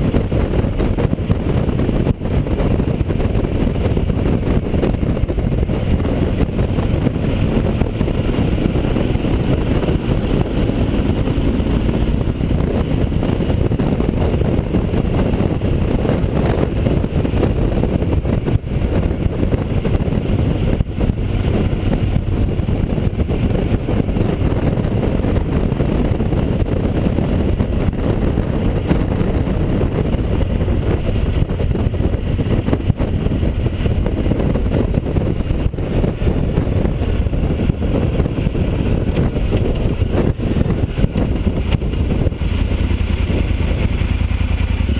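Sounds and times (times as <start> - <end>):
motorcycle engine rumbling: 0.0 - 44.9
wind noise: 0.0 - 44.9.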